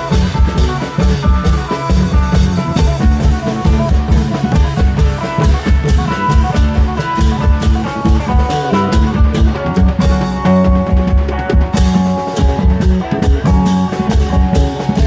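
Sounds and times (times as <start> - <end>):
low drum beat: 0.0 - 15.0
plucked string melody: 0.0 - 15.0.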